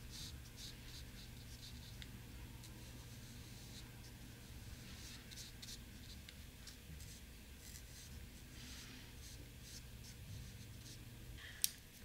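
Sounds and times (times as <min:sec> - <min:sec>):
paintbrush scratching on paper: 0:00.0 - 0:02.0, 0:02.6 - 0:11.0
steady low hum: 0:00.0 - 0:12.0.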